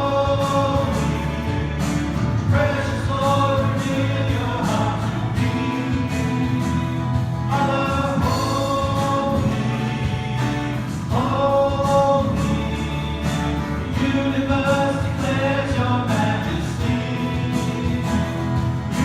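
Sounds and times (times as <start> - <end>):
group singing gospel song: 0.0 - 19.0.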